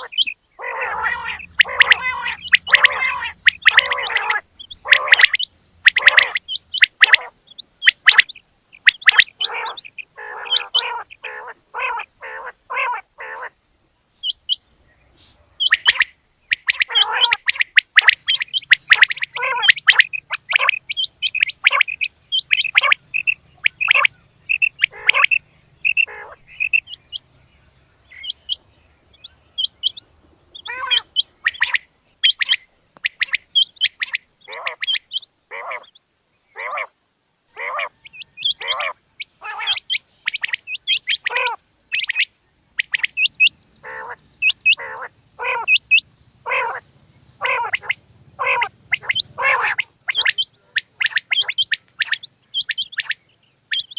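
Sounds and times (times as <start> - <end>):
quail calling: 0.0 - 13.6, 15.2 - 27.3, 28.0 - 46.8, 47.4 - 53.9.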